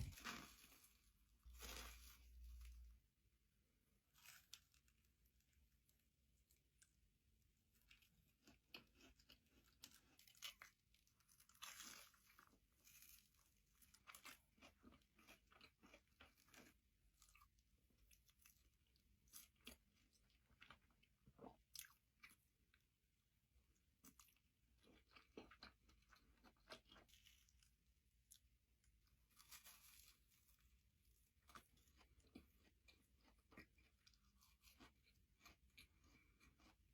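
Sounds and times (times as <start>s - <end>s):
crunching of crispy food: 0.0s - 3.1s, 3.8s - 36.9s.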